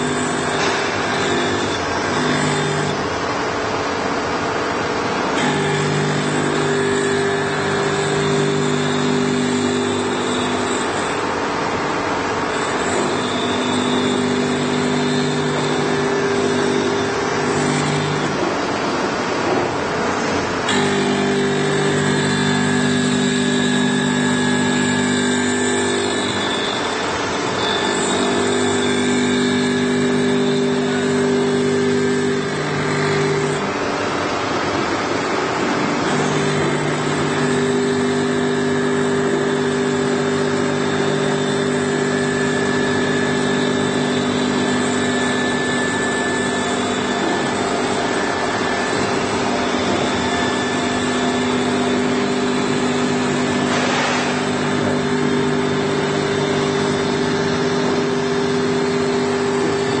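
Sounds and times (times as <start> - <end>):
knife grinding machine running: 0.0 - 60.0
motor hum: 0.0 - 60.0.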